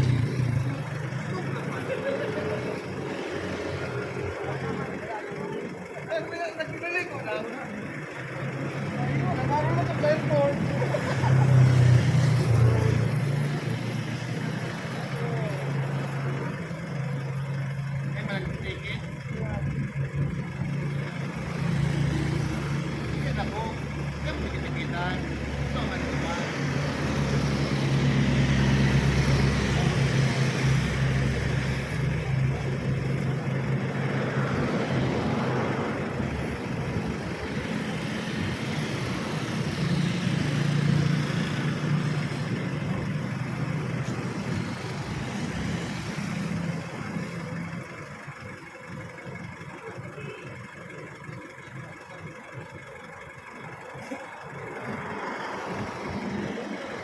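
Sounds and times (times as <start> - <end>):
traffic noise: 0.0 - 57.0
vehicle engine running: 0.0 - 57.0.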